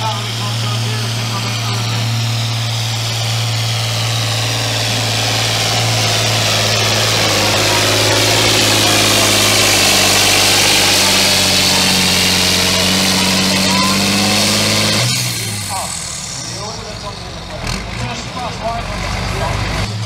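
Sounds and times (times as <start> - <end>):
high engine whine: 0.0 - 20.0
tractor diesel engine droning: 0.0 - 20.0.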